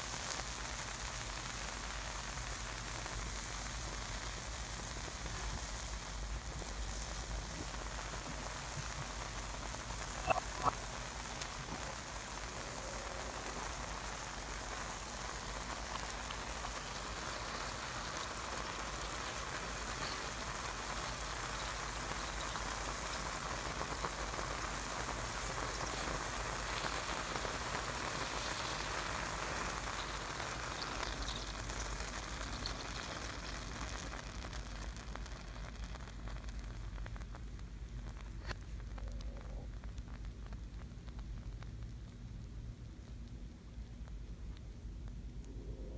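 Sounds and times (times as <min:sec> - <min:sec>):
acid crackling fizz: 0:00.0 - 0:45.9.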